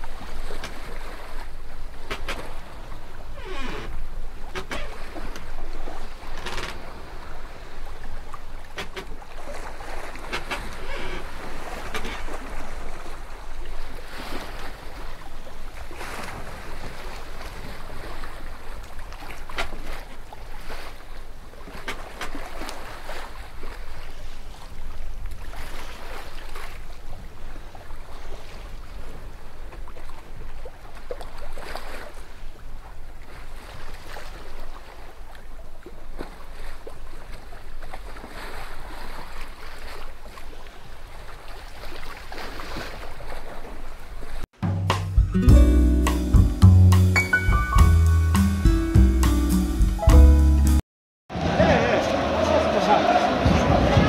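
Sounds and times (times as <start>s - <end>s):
water splashing along boat hull: 0.0s - 44.7s
wind: 0.0s - 54.0s.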